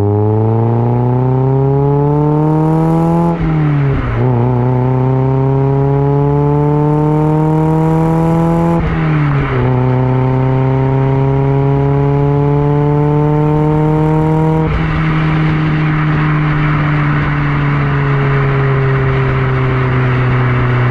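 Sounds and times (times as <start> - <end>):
car engine accelerating: 0.0 - 20.9
wind and road noise: 0.0 - 20.9.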